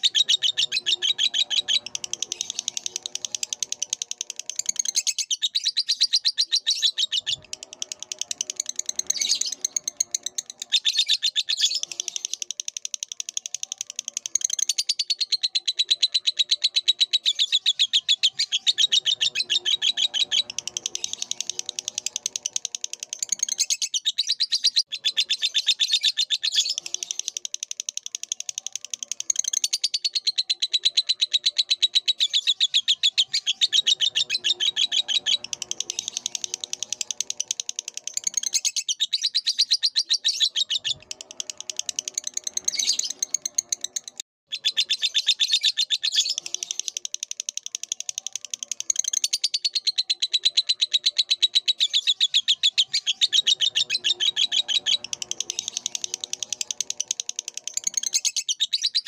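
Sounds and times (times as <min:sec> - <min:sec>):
lovebird chattering song: 0:00.0 - 0:59.0.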